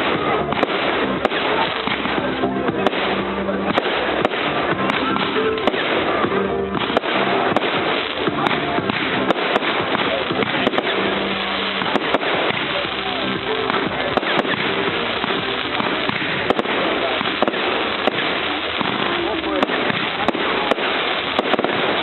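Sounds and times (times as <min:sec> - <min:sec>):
fireworks bangs and crackles: 0:00.0 - 0:22.0
music with held notes: 0:00.0 - 0:22.0.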